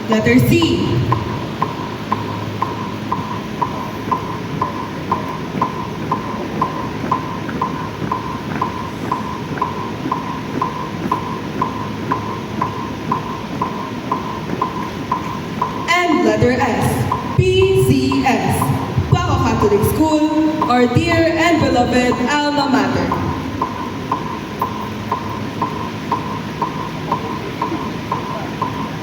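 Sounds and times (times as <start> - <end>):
background hubbub: 0.0 - 29.0
metronome-like ticking: 0.2 - 29.0.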